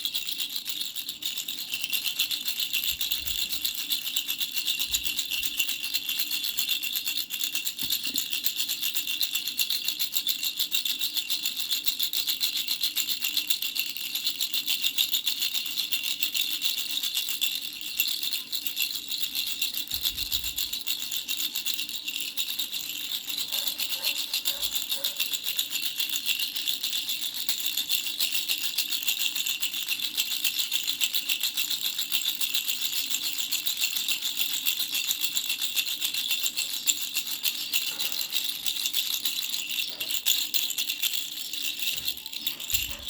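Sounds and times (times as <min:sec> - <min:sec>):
baby rattle shaken: 0:00.0 - 0:43.0.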